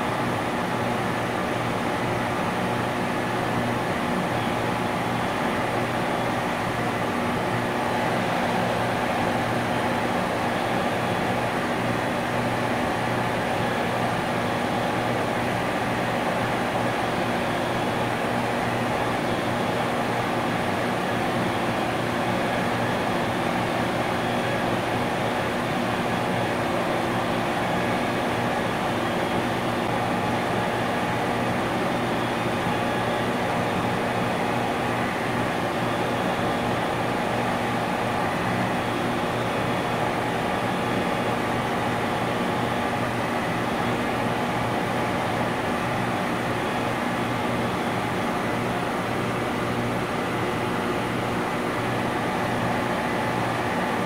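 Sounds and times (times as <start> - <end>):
industrial compressor humming: 0.0 - 54.0.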